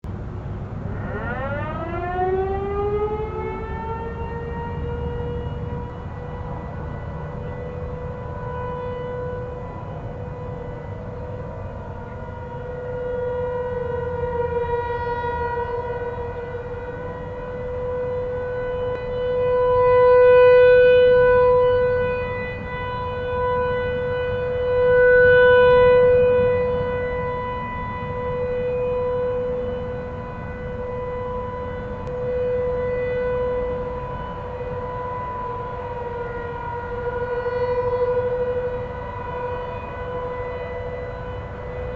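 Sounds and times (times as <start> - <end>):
distant rotating warning sirens: 0.1 - 41.9.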